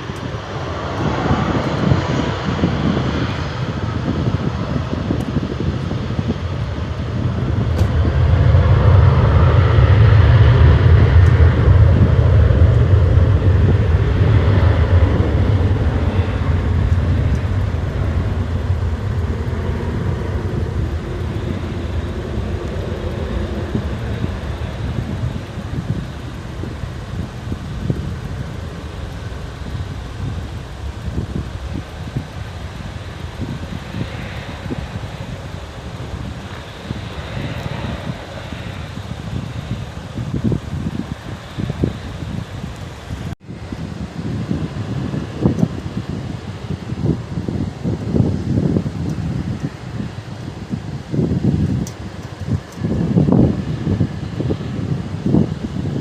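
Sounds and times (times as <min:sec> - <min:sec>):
jet airliner engines passing: 0:00.0 - 0:56.0.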